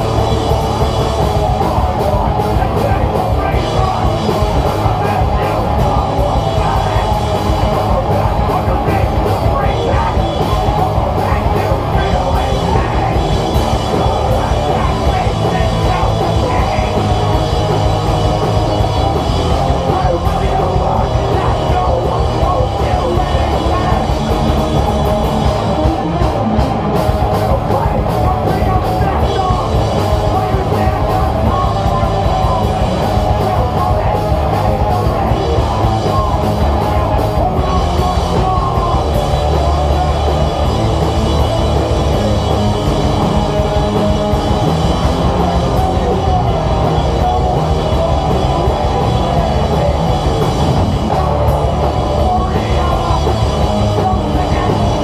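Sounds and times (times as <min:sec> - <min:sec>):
person singing into microphone: 0:00.0 - 0:26.2, 0:27.2 - 0:55.0
drum kit: 0:00.0 - 0:55.0
electric guitar: 0:00.0 - 0:55.0.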